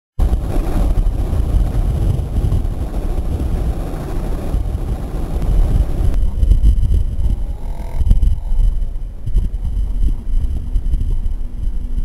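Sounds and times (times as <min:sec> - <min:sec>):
wind buffeting microphone: 0:00.2 - 0:12.0.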